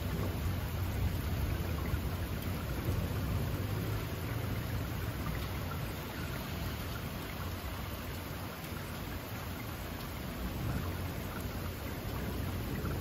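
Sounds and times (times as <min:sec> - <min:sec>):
rain falling through trees: 0:00.0 - 0:13.0.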